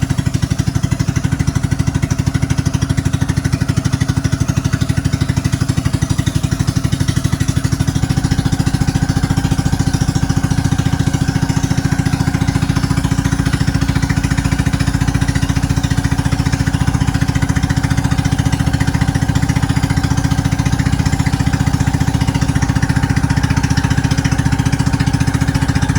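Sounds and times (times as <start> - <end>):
boat engine running: 0.0 - 25.9.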